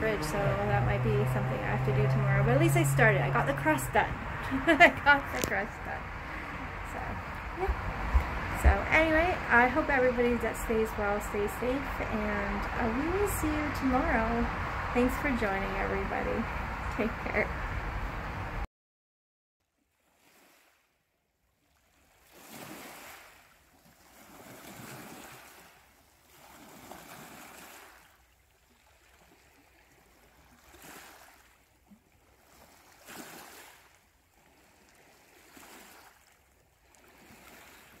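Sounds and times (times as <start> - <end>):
faint ocean waves washing in: 0.0 - 18.6, 19.8 - 38.0.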